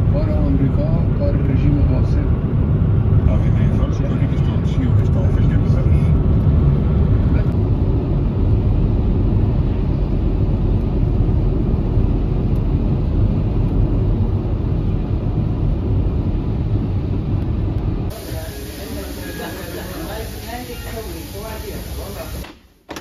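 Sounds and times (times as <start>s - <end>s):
car road rumble from inside: 0.0s - 18.8s.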